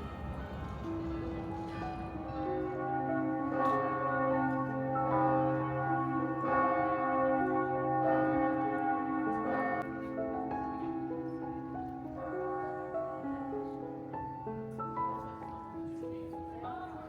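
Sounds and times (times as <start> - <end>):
bells ringing: 0.0 - 14.5.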